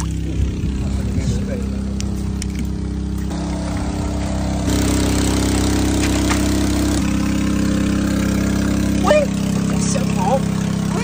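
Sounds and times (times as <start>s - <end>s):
water pump engine running: 0.0s - 11.0s.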